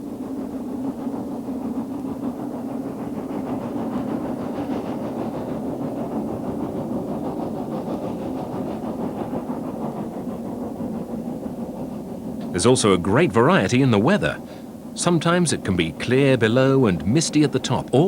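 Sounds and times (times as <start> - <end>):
train engine droning: 0.0 - 18.0.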